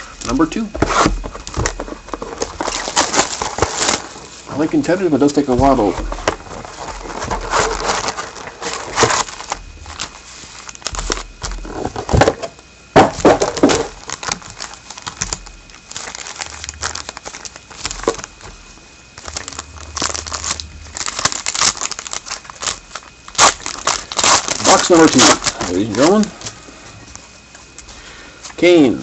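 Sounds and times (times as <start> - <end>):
plastic wrapping crinkling and tearing: 0.2 - 12.4, 13.2 - 27.9.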